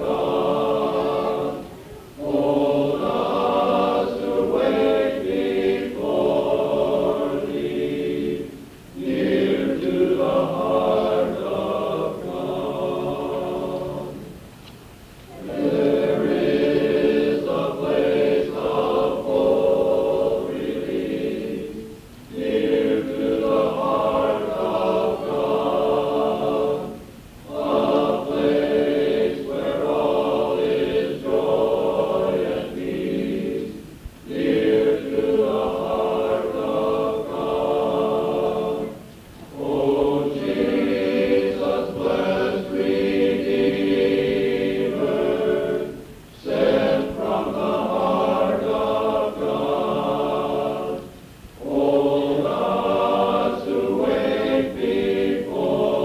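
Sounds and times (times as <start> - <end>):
men's chorus singing: 0.0 - 14.4, 15.3 - 56.0.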